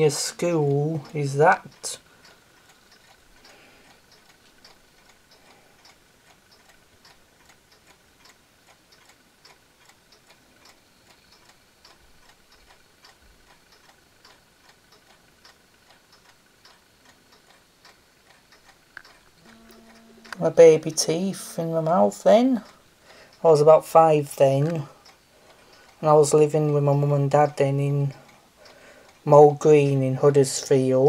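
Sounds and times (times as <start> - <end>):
mechanical clocks ticking: 0.0 - 31.0.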